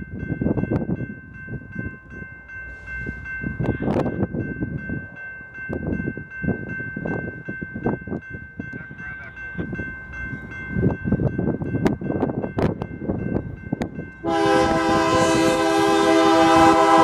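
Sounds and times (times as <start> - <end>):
railroad crossing bell ringing: 0.0 - 17.0
wind rumbling on microphone: 3.0 - 17.0.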